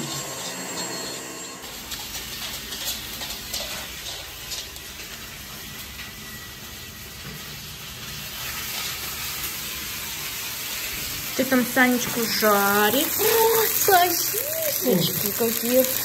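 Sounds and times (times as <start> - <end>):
sausages sizzling in a pan: 1.6 - 16.0.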